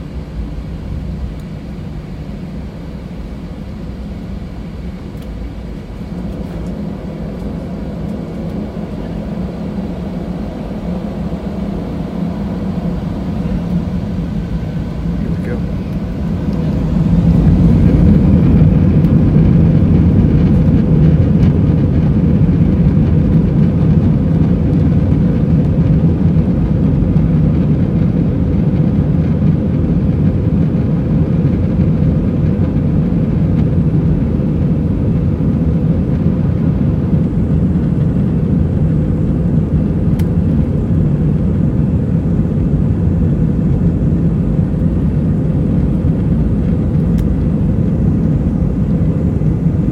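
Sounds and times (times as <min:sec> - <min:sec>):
jet engine and airflow rumble: 0:00.0 - 0:49.9.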